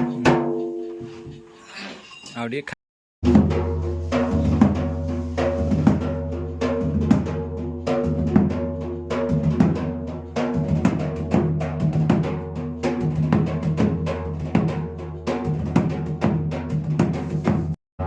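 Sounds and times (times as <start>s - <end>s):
barrel drum rapid strikes: 3.2s - 17.8s.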